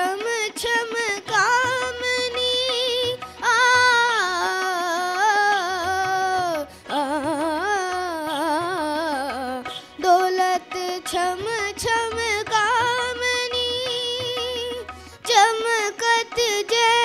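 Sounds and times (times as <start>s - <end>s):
boy singing into microphone: 0.0s - 17.0s.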